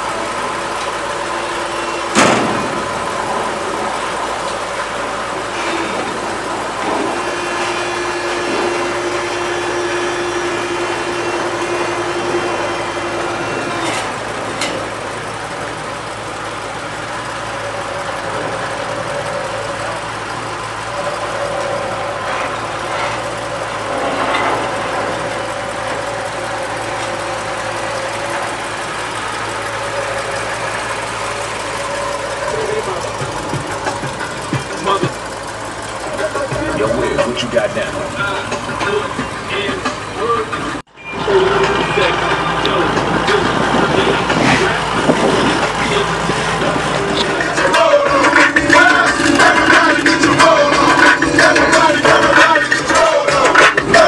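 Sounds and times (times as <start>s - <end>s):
thin steady whine: 0.0s - 54.0s
vehicle engine idling: 0.0s - 54.0s.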